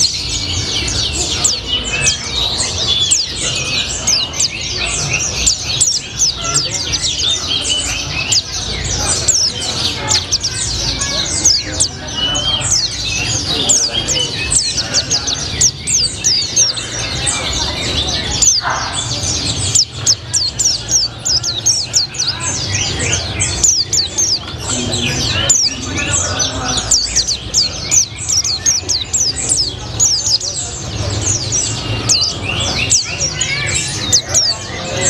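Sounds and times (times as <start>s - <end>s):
bird singing high chirps: 0.0s - 35.0s.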